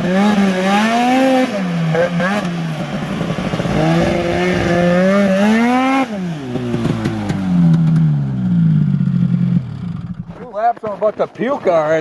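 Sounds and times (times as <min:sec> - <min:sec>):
snowmobile engine revving: 0:00.0 - 0:10.2.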